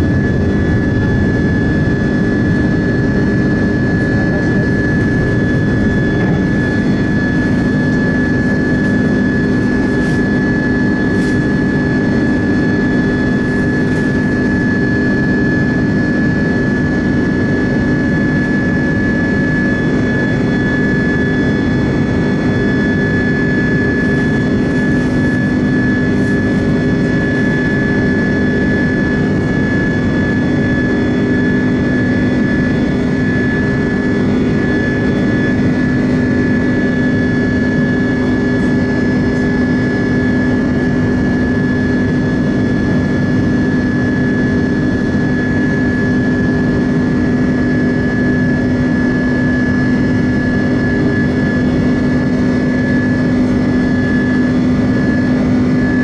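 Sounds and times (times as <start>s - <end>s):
high whine: 0.0s - 56.0s
jet engine noise in cabin: 0.0s - 56.0s
low hum: 0.0s - 56.0s.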